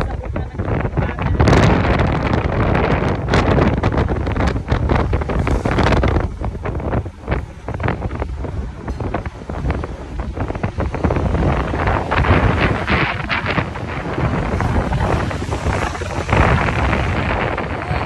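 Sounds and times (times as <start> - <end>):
motorcycle and road noise: 0.0 - 18.0
wind buffeting microphone: 0.0 - 18.0.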